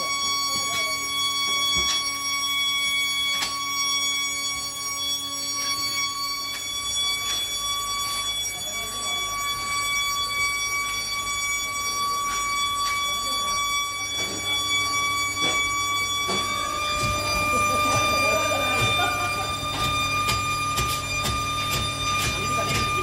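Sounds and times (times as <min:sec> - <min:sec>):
high-pitched machine whine: 0:00.0 - 0:23.0.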